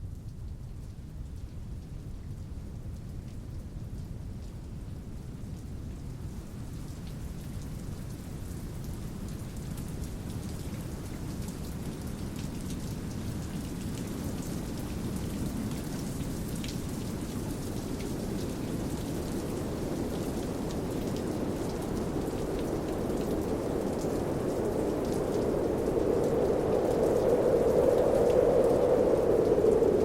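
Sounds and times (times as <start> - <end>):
steady rain rumbling: 0.0 - 30.0.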